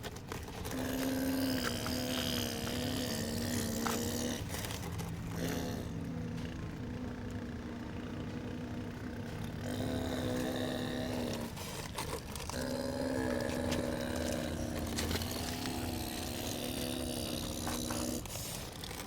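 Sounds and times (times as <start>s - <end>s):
model excavator motors whining: 0.0s - 19.0s.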